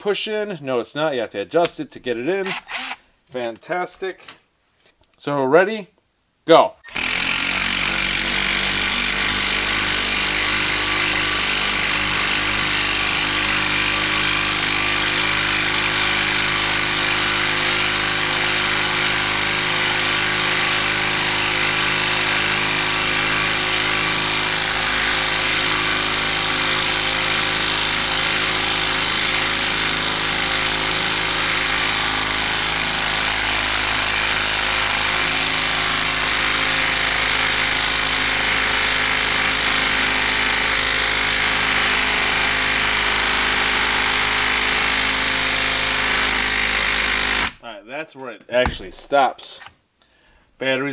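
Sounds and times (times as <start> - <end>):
impact driver hammering screw into wood: 2.4 - 3.0, 6.9 - 47.6.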